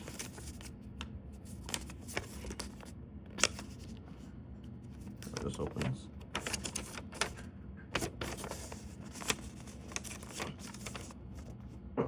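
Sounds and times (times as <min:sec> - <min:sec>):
paper rustling and crackling: 0:00.0 - 0:11.8.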